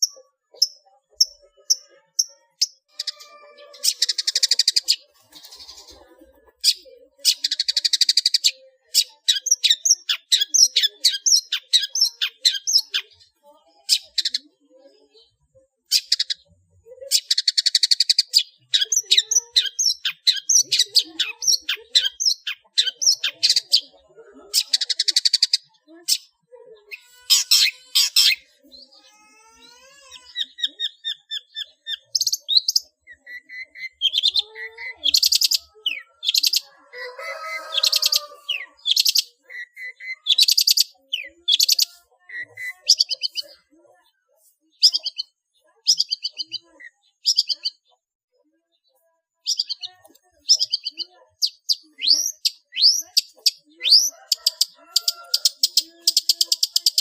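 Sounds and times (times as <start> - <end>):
bird singing scratchy mimicking song: 0.0 - 57.0.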